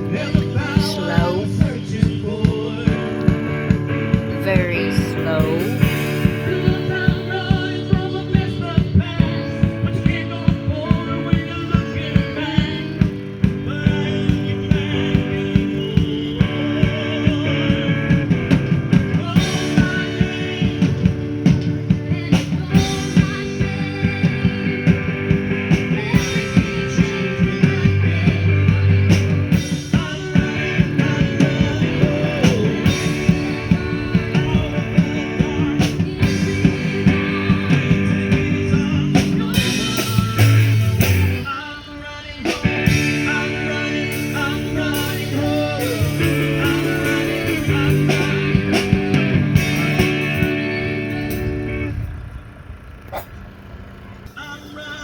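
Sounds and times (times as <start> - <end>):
person singing: 0.0 - 3.6, 4.2 - 21.1, 21.9 - 51.5
bass guitar: 0.0 - 41.6, 42.4 - 53.5
electric guitar: 0.0 - 52.3
drums: 0.0 - 53.4.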